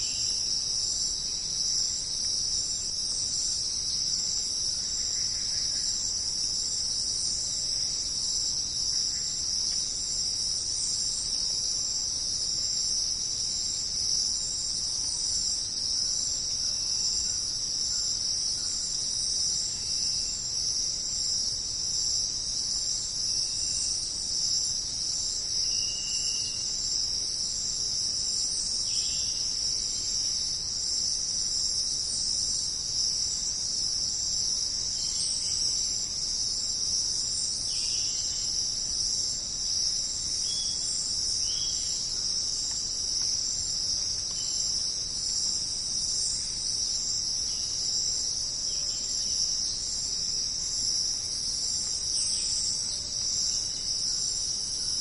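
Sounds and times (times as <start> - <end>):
insect chorus shrill drone: 0.0 - 55.0.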